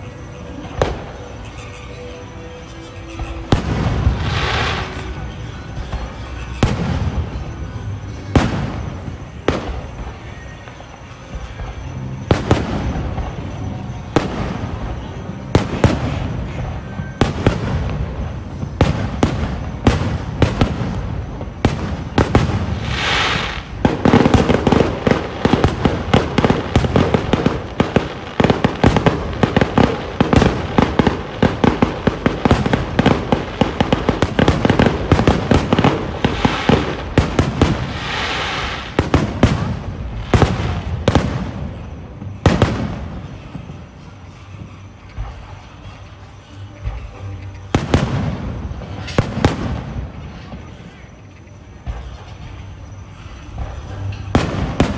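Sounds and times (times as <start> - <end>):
firework crackle: 0.0 - 54.9.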